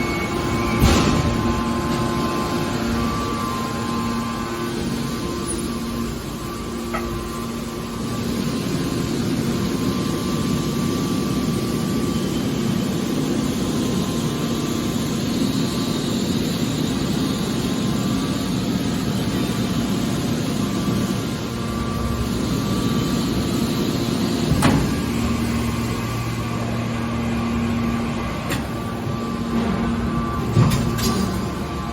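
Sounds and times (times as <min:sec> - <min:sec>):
hydraulic baler humming: 0:00.0 - 0:31.9.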